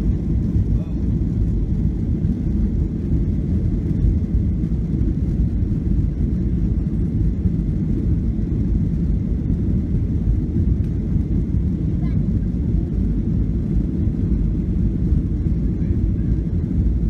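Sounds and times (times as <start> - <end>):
aircraft cabin engine rumble: 0.0 - 17.0
aircraft rolling on taxiway: 0.0 - 17.0.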